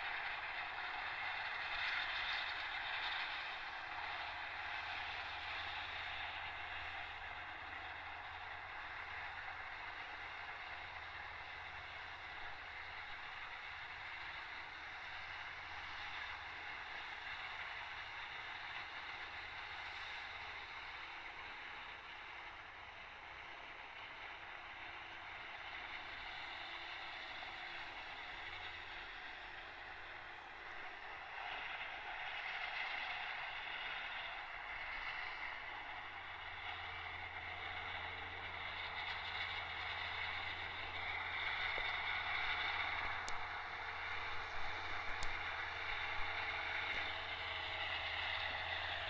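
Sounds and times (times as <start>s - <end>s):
tractor mower drone: 0.0s - 49.0s.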